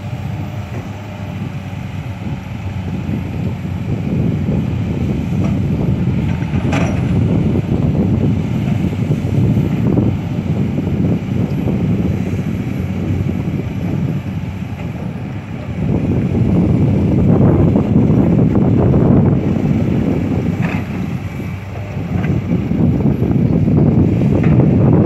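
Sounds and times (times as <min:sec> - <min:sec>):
excavator diesel engine running: 0:00.0 - 0:25.0
wind on microphone: 0:00.0 - 0:25.0.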